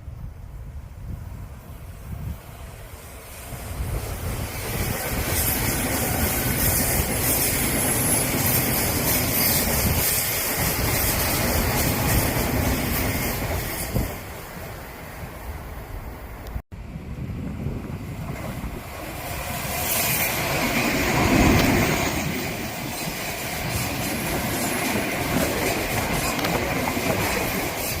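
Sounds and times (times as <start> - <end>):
electric train wheel rumble: 0.0 - 28.0.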